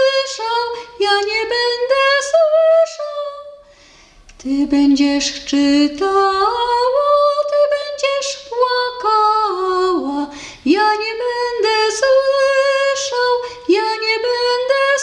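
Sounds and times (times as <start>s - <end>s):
woman singing unaccompanied: 0.0s - 3.7s, 4.4s - 15.0s.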